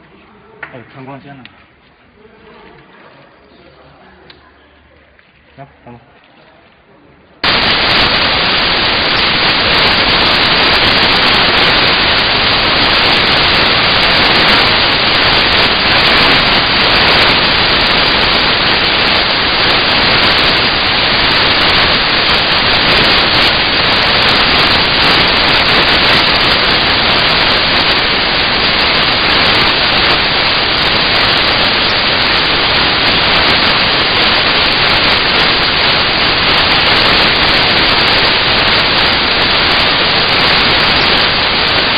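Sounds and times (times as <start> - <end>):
loud static hiss: 7.3 - 41.9.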